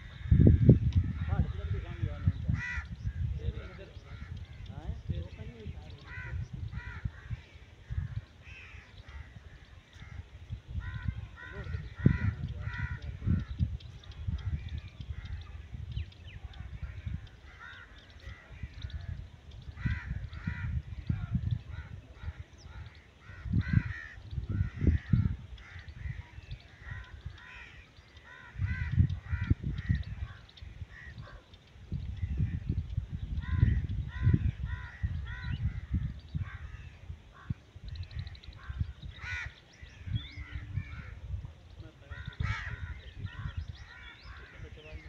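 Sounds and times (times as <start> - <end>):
birds calling: 0.0 - 45.0
low rumble in gusts: 0.0 - 45.0.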